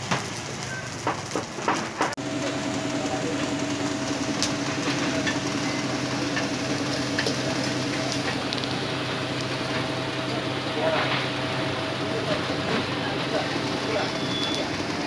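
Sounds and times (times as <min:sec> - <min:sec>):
charcoal fire crackling: 0:00.0 - 0:15.0
grill ticking: 0:00.0 - 0:15.0
fan blowing: 0:02.2 - 0:15.0
machine hum: 0:02.2 - 0:15.0.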